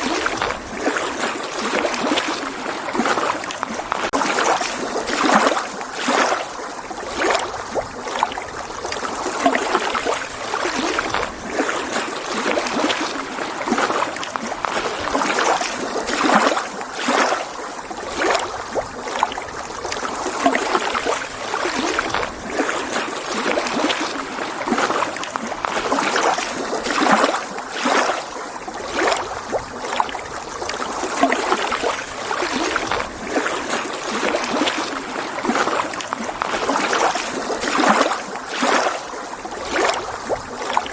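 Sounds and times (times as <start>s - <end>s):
lake waves lapping against shore: 0.0s - 40.9s.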